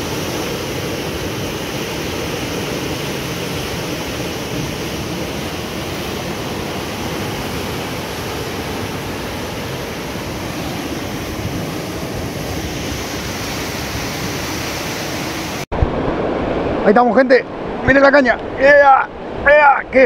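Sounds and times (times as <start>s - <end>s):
surf breaking on rocks: 0.0s - 20.0s.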